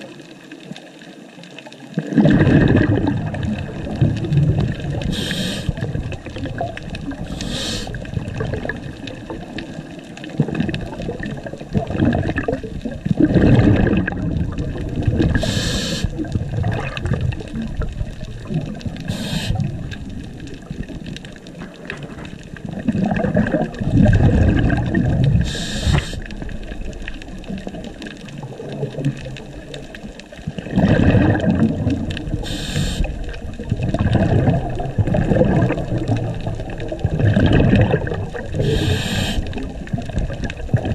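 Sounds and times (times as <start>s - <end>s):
exhaled bubbles underwater: 0.0s - 40.9s.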